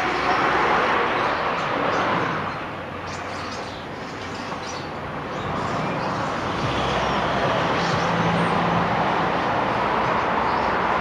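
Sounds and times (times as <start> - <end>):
flock of birds chirping: 0.0 - 8.9
road traffic hum: 0.0 - 11.0.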